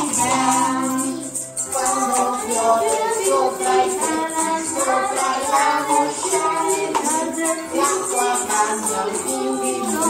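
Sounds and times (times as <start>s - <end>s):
adults and children singing: 0.0s - 10.0s
maracas shaken: 0.0s - 10.0s.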